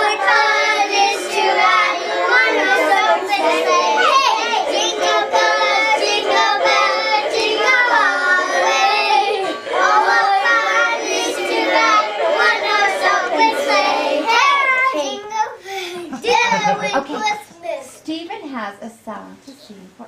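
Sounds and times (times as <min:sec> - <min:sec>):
young children singing: 0:00.0 - 0:17.6.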